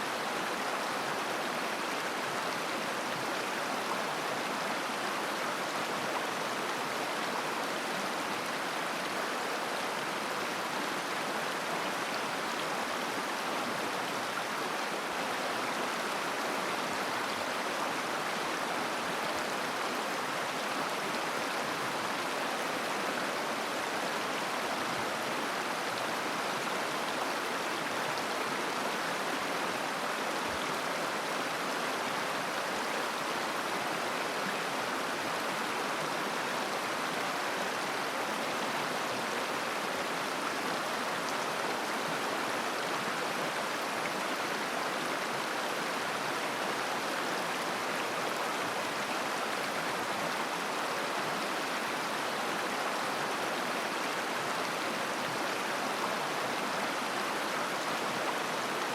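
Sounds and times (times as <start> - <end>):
river water babbling over stones: 0.0 - 58.9.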